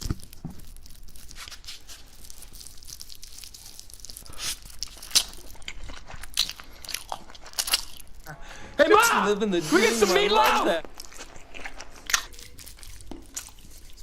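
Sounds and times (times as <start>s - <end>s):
crunching and chewing: 0.0s - 8.4s, 10.8s - 14.0s.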